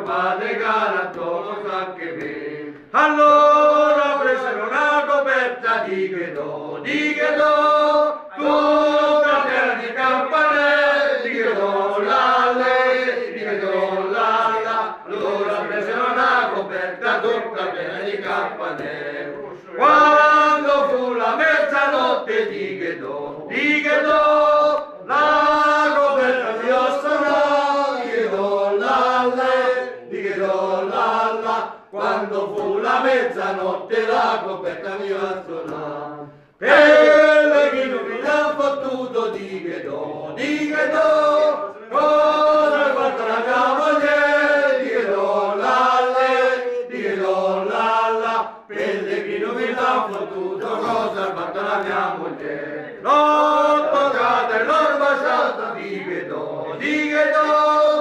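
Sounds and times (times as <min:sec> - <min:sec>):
voices singing unaccompanied: 0:00.0 - 0:58.0.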